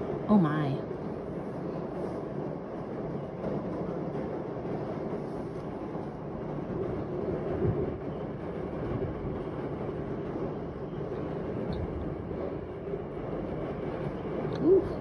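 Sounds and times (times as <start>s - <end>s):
storm wind through window glass: 0.0s - 15.0s.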